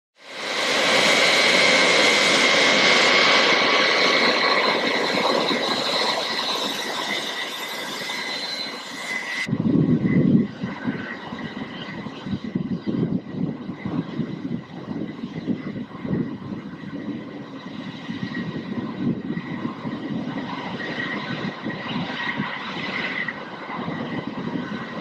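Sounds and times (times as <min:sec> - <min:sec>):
jet engines whining while taxiing: 0:00.2 - 0:25.0.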